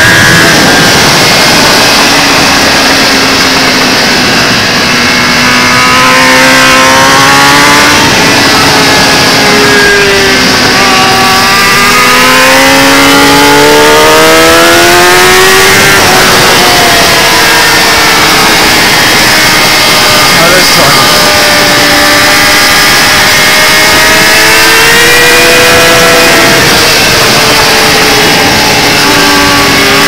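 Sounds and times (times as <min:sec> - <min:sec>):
motorcycle engine at racing speed: 0:00.0 - 0:30.0
wind rush: 0:00.0 - 0:30.0.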